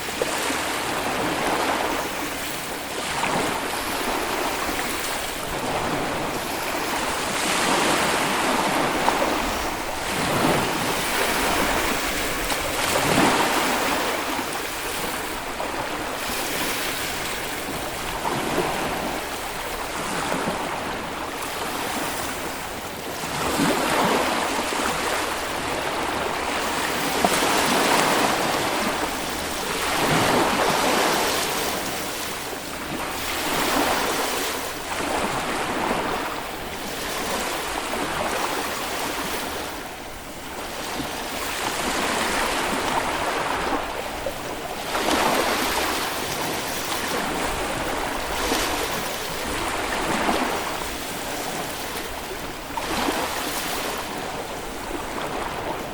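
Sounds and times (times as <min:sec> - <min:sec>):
waves breaking on a beach: 0:00.0 - 0:55.9
wind on microphone: 0:00.0 - 0:55.9.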